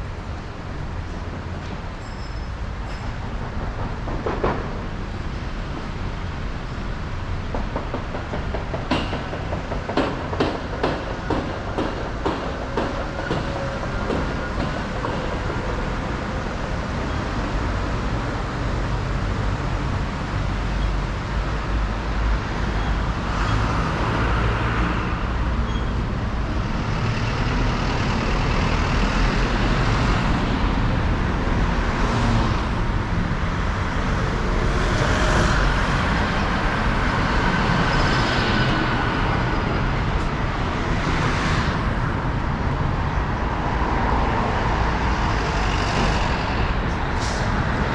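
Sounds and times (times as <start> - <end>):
road traffic noise: 0.0 - 47.9
vehicles passing close by: 3.6 - 47.9.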